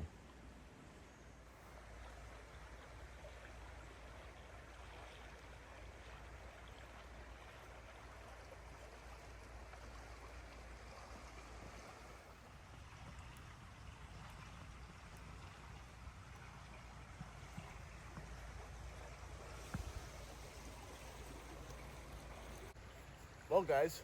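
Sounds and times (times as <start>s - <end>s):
creek running water: 0.0s - 24.0s.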